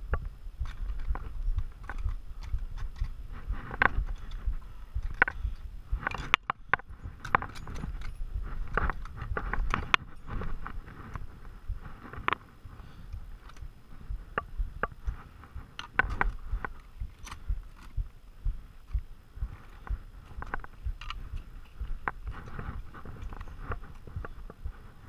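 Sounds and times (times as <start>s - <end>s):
dull bumps: 0.0s - 25.0s.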